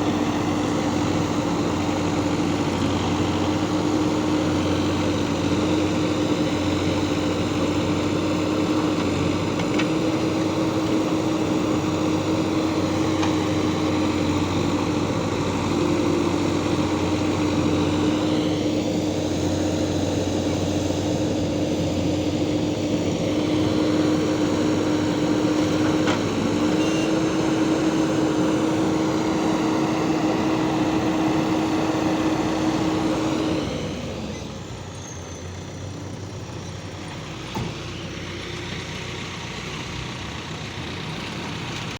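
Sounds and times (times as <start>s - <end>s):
diesel engine at high revs: 0.0s - 41.9s.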